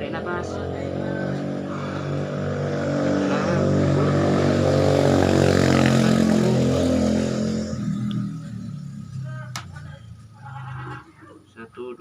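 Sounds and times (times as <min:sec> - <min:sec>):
motor engine running loudly: 0:00.0 - 0:11.0.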